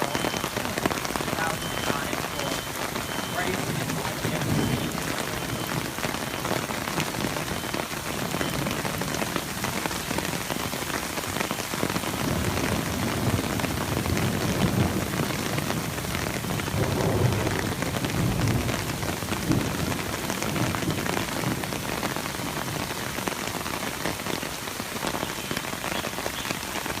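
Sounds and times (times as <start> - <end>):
hail and heavy rain pelting: 0.0 - 27.0.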